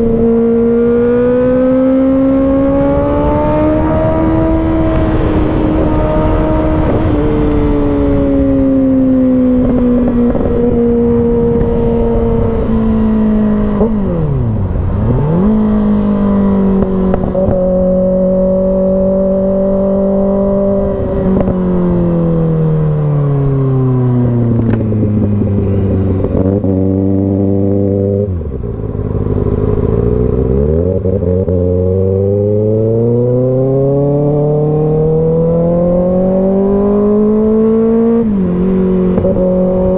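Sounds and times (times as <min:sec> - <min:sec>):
motorcycle engine at highway speed: 0:00.0 - 0:39.9.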